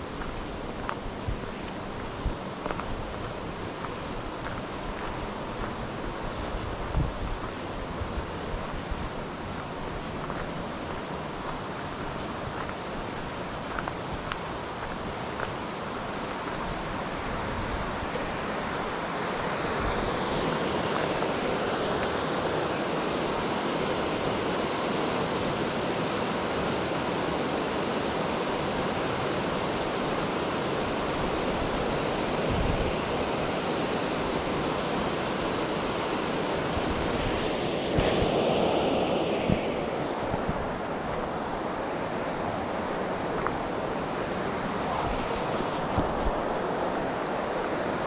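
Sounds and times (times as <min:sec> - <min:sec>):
mountain stream rushing: 0:00.0 - 0:48.0.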